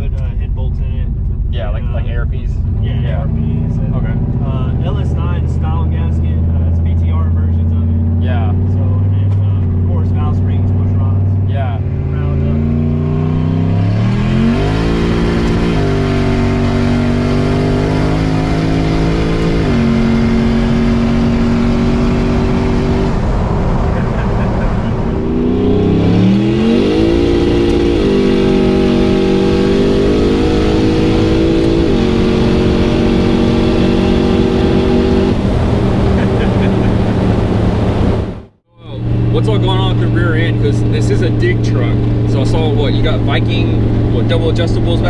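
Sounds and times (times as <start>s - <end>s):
truck engine accelerating hard: 0.0s - 45.0s.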